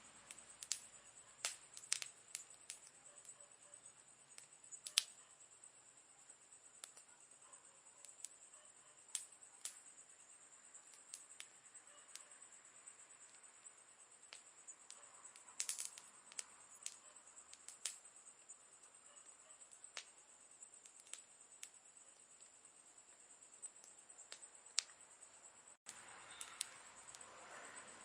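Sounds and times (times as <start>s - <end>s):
campfire crackling: 0.0s - 28.0s
high-pitched hiss: 0.0s - 28.0s.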